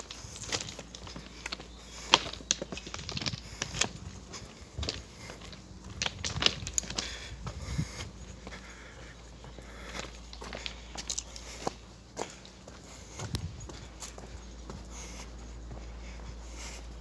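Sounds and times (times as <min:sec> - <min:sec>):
footsteps crunching on gravel: 0:00.0 - 0:17.0.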